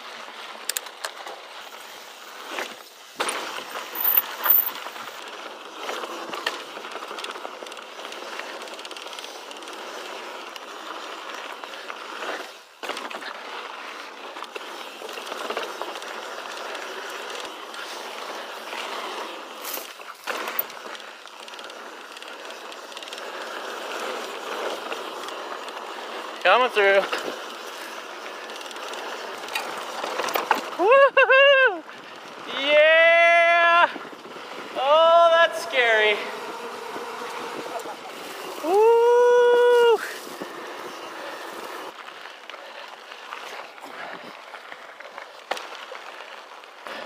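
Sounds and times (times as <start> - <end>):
bike rattling: 0.0 - 47.0
bike tyres rolling over dirt: 0.0 - 47.0.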